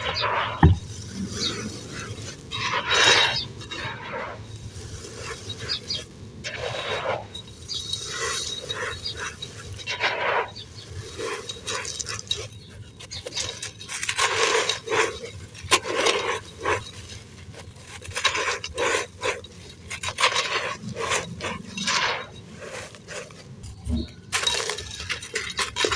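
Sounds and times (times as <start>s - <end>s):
sand crunching in a clay pot: 0.0s - 25.9s.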